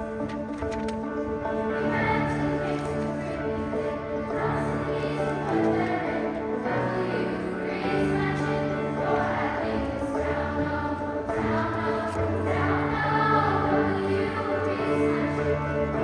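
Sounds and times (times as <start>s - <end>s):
piano accompaniment: 0.0s - 16.0s
girls choir singing: 1.4s - 16.0s.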